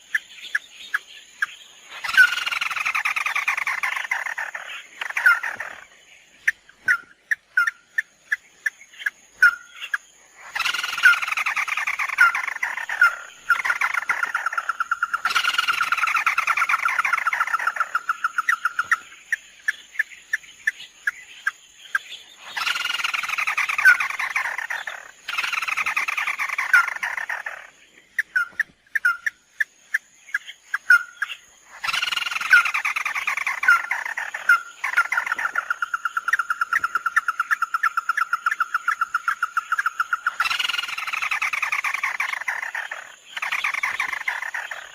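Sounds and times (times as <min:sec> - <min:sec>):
bird trilling: 0:01.9 - 0:08.4, 0:09.0 - 0:21.6, 0:22.4 - 0:29.4, 0:30.7 - 0:44.9.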